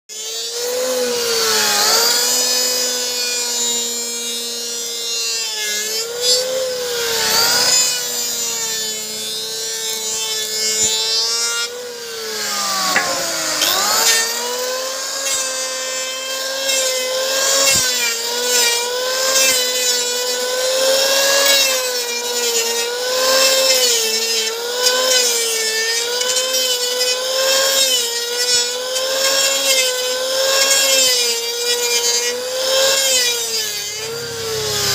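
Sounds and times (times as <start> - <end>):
electric hand planer cutting wood: 0.1 - 34.9.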